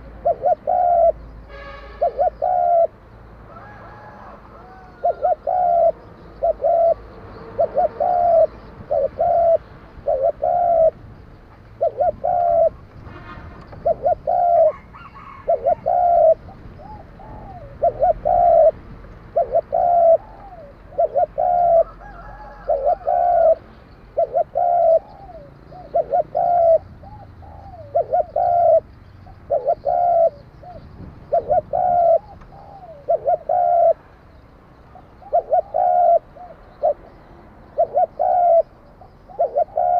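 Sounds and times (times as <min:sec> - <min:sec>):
dove cooing: 0:00.0 - 0:01.2, 0:02.0 - 0:11.0, 0:11.7 - 0:13.0, 0:13.7 - 0:34.1, 0:34.9 - 0:39.9.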